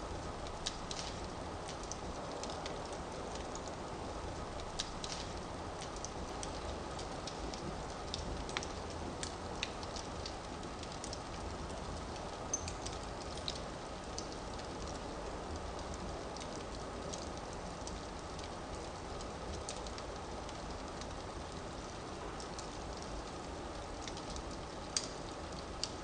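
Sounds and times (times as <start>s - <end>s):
fire hissing and rumbling: 0.0s - 26.0s
firewood crackling and popping: 0.1s - 26.0s.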